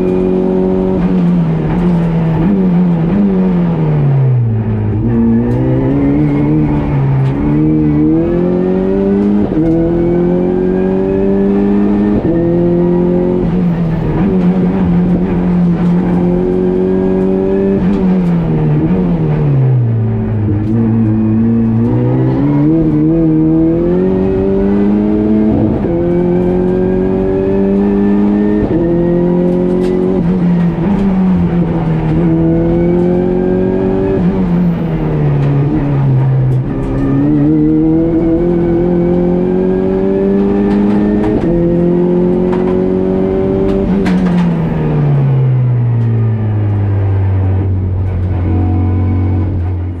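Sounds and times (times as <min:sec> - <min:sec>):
race car engine at full throttle: 0:00.0 - 0:50.0.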